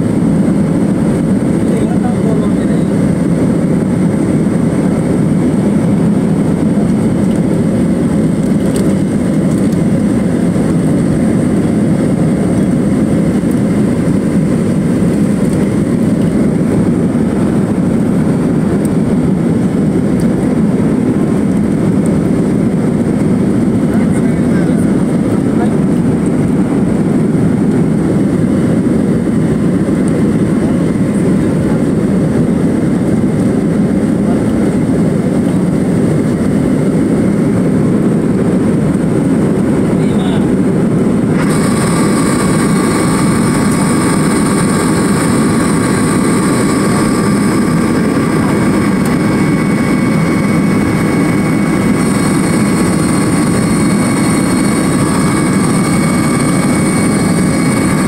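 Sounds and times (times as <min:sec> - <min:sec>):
airliner engine and airflow rumble: 0:00.0 - 0:58.0.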